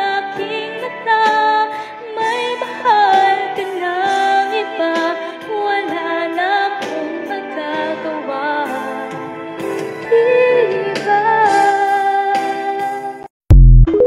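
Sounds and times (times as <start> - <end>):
woman singing: 0.0 - 9.3, 10.0 - 13.3.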